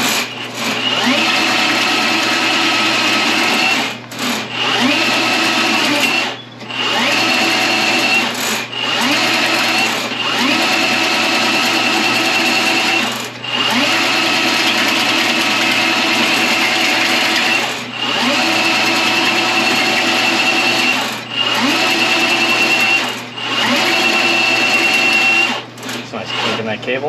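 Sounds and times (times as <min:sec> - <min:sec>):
drain machine motor whining: 0:00.0 - 0:27.0.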